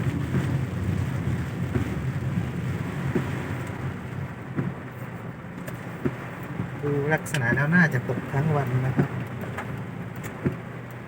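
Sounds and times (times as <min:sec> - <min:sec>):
heavy rain falling: 0:00.0 - 0:10.8
low steady rumble: 0:00.0 - 0:11.0.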